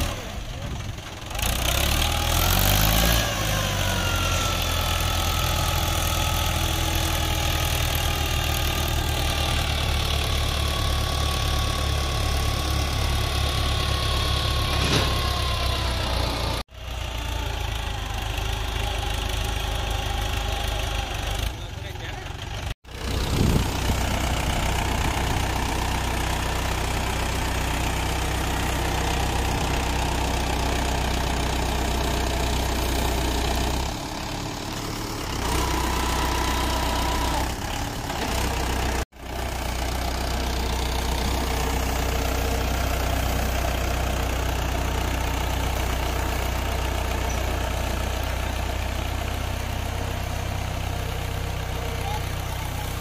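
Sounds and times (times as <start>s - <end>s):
diesel tractor engine running: 0.0s - 53.0s.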